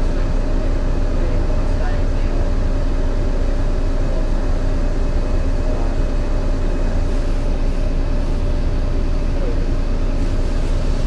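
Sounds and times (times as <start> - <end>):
bus engine misfiring: 0.0 - 11.0.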